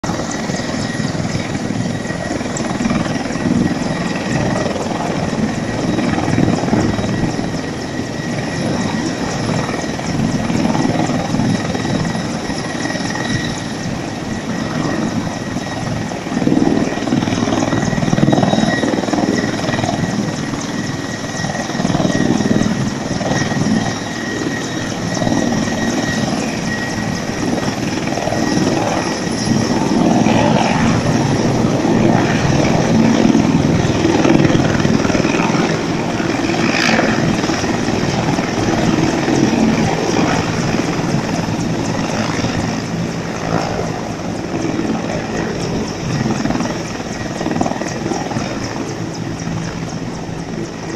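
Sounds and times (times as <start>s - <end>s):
helicopter turbine and rotor noise: 0.0s - 50.9s.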